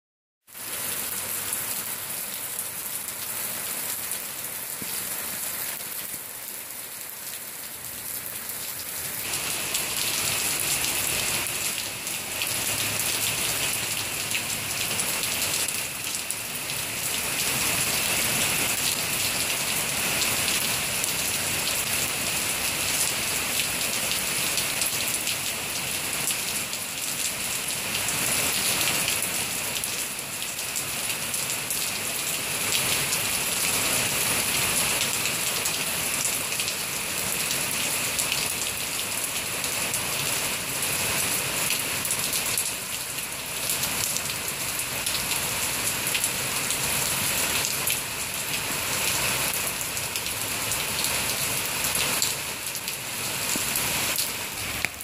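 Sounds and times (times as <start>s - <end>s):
heavy rain pouring: 0.5s - 55.0s.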